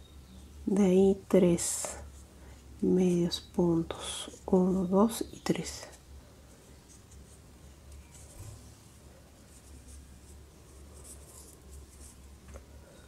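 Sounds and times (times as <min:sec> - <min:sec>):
yarn rustling and scratching: 0:01.1 - 0:12.6.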